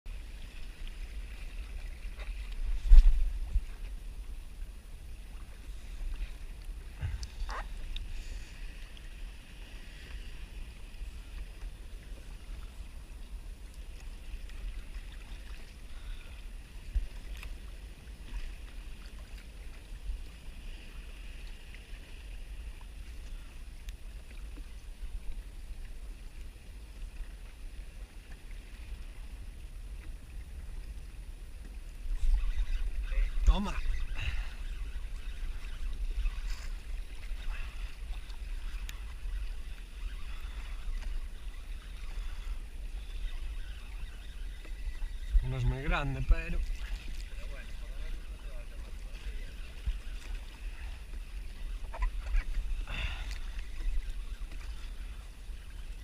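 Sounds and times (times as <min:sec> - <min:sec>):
water splashing around kayak: 0:00.1 - 0:56.0.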